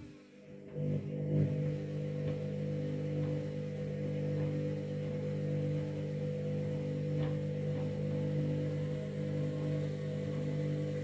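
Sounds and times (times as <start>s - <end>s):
washing machine motor humming: 0.0s - 11.0s.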